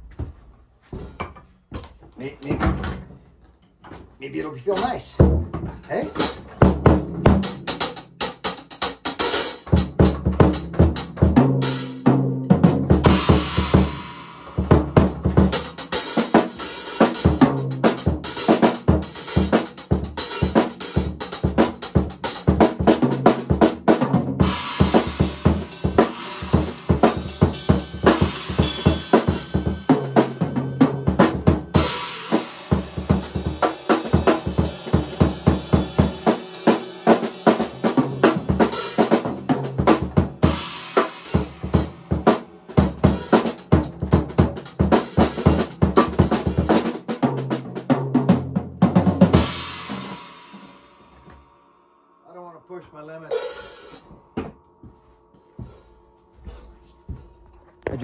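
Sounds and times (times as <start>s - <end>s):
drum kit playing: 4.2s - 51.5s, 52.4s - 55.8s.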